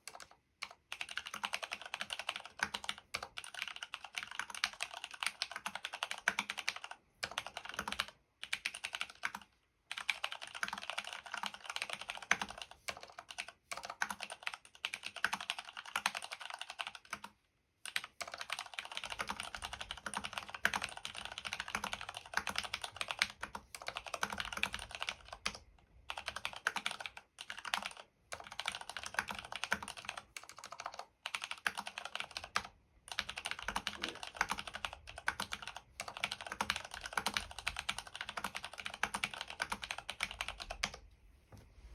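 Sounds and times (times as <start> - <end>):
fast mechanical keyboard typing: 0.0 - 41.0.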